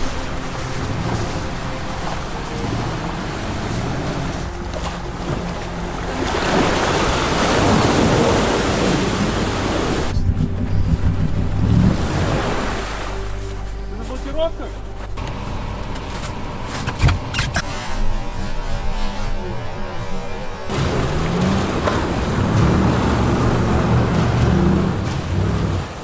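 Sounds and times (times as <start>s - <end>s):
water splashing around wheels: 0.0s - 19.4s, 20.2s - 26.0s
engines running: 0.0s - 26.0s.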